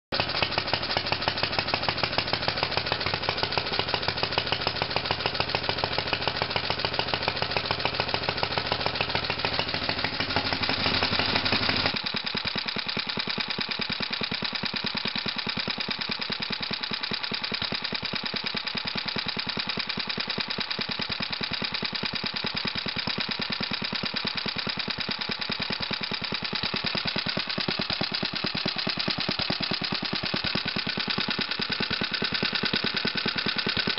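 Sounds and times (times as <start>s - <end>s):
gas engine popping exhaust beat: 0.1s - 16.6s, 20.6s - 33.9s.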